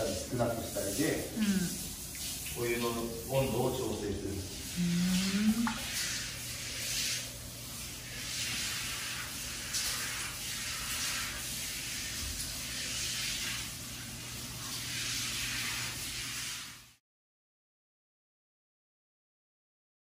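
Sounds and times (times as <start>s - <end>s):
water pouring from pipe into bath: 0.0s - 17.0s.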